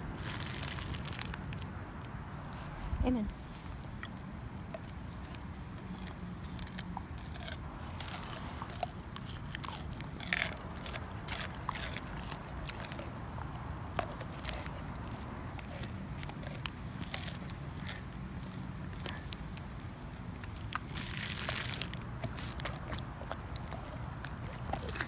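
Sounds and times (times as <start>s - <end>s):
dog chewing raw fish: 3.7s - 25.0s.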